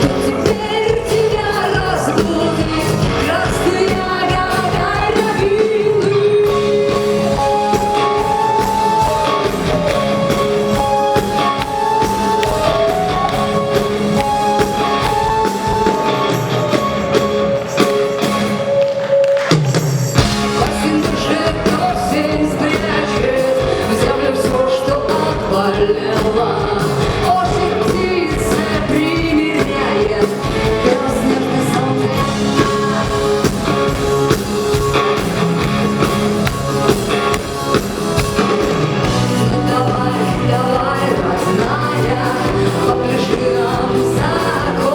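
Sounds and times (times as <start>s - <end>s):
person singing: 0.0s - 35.6s, 36.5s - 44.9s
drums: 0.0s - 44.9s
live rock band: 0.0s - 44.9s.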